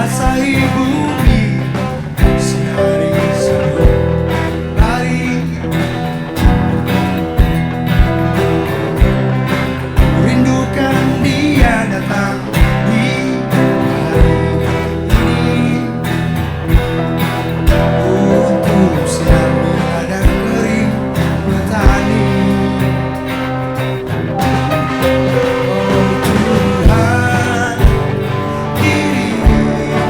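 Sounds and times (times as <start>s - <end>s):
person singing: 0.0s - 7.1s, 8.4s - 30.0s
guitar: 0.0s - 30.0s
live band playing: 0.0s - 30.0s.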